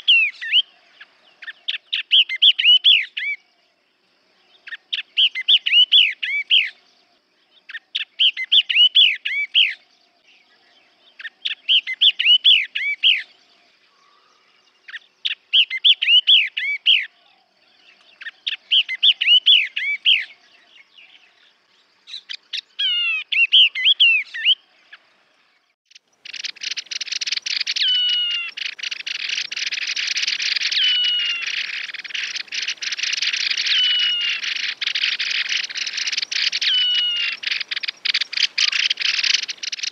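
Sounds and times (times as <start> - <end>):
bird warbling song: 0.0 - 3.7, 4.3 - 39.9.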